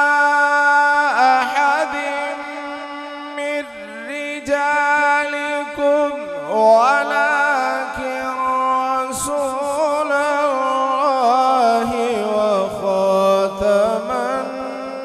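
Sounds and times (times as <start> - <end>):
man chanting over loudspeakers: 0.0 - 15.0.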